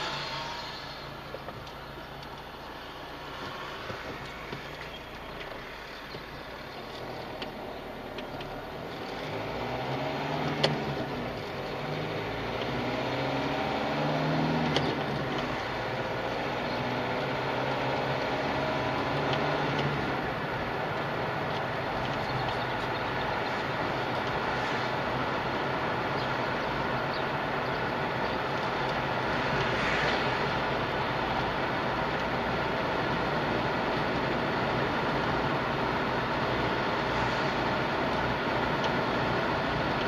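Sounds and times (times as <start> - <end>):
car engine accelerating: 0.0 - 40.0
road noise inside car: 0.0 - 40.0.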